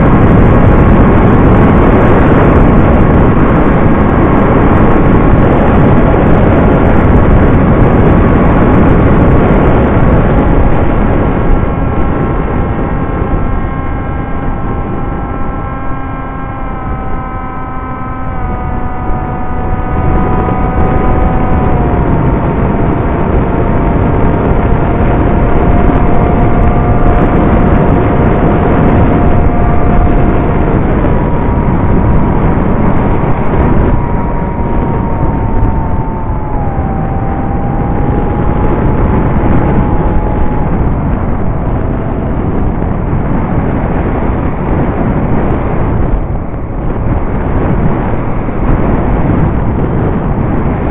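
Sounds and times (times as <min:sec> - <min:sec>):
model plane motor whining: 0:00.0 - 0:50.9
wind rush: 0:00.0 - 0:50.9.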